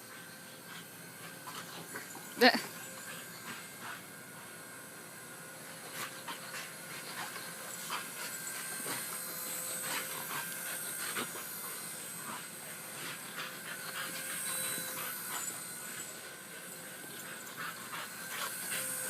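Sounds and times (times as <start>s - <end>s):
dog panting: 0.0s - 19.0s
toy helicopter motor whining: 0.0s - 19.0s.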